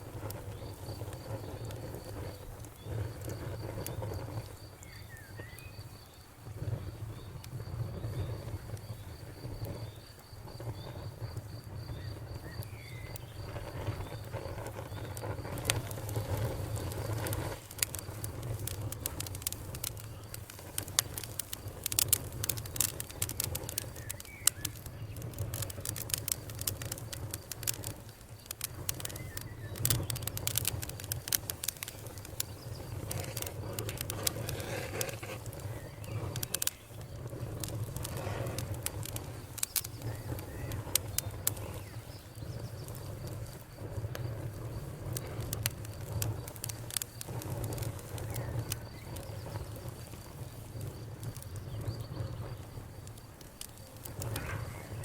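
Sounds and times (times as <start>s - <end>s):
campfire crackling and popping: 0.0s - 55.0s
insect trill: 0.5s - 55.0s.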